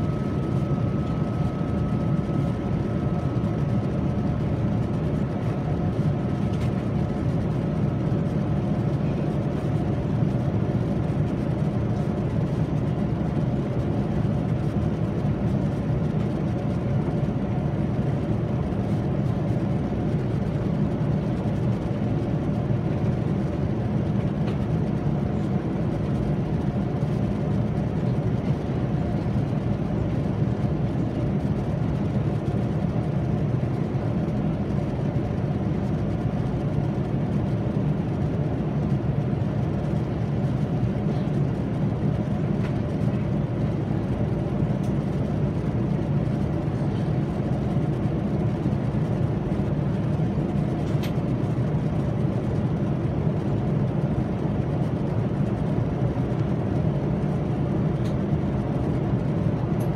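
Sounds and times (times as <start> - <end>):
airflow and engine drone: 0.0 - 59.9
faint hum tones: 0.0 - 59.9.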